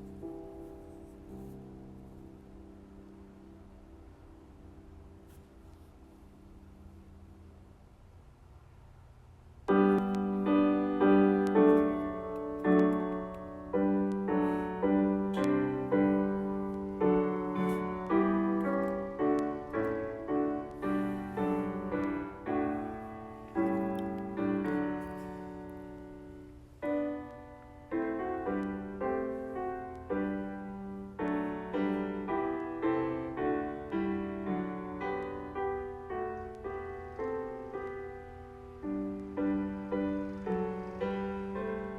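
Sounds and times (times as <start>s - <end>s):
faint low background noise: 0.0s - 41.9s
soft piano music: 0.0s - 41.9s.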